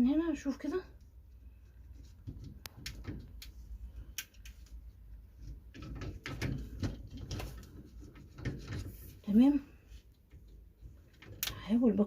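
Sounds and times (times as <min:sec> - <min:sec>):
plastic rubbing and knocking: 0:01.6 - 0:11.5.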